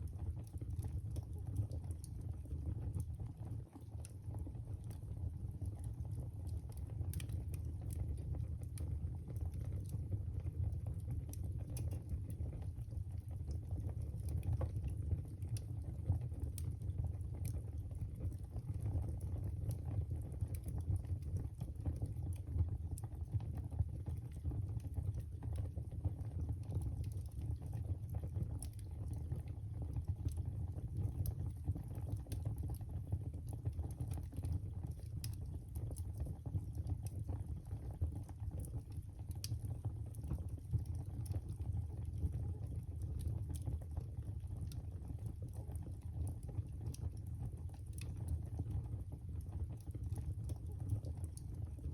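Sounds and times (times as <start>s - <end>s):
fire crackling and popping: 0.0s - 51.9s
fire rumbling: 0.0s - 51.9s.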